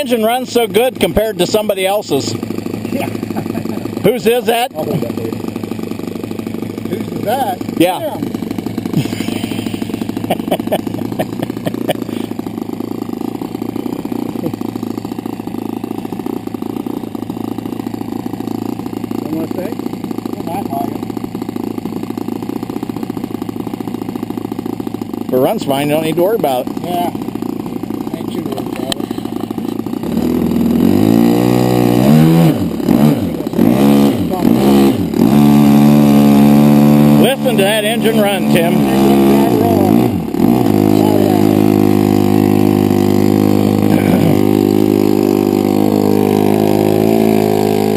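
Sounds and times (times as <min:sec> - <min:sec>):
model airplane engine running: 0:00.0 - 0:47.9.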